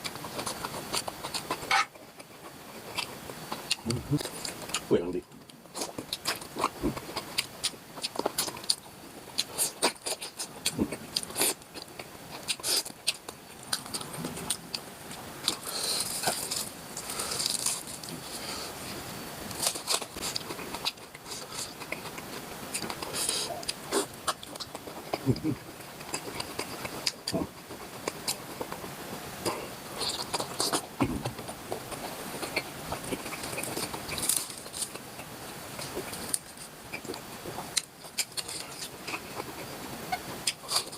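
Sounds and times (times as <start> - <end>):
wet mouth chewing: 0.0 - 18.5, 19.5 - 39.7, 40.4 - 40.9.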